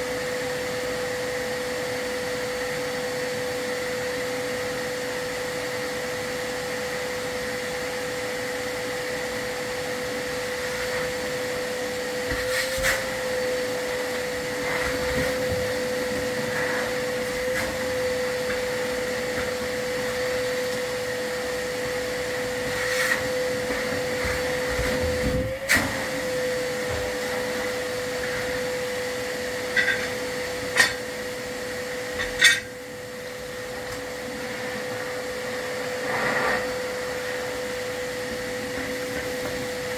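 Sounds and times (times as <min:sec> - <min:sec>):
vacuum whining: 0:00.0 - 0:39.9.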